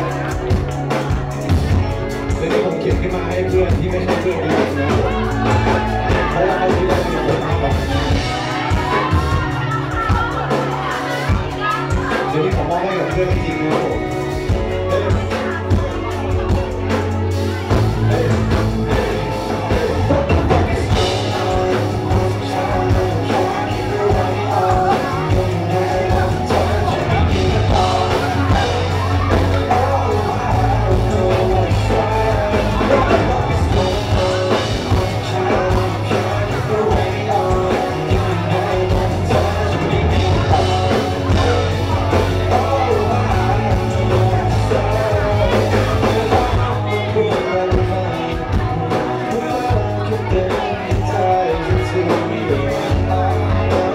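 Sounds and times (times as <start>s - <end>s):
person singing: 0.0s - 53.9s
rock band playing: 0.0s - 53.9s.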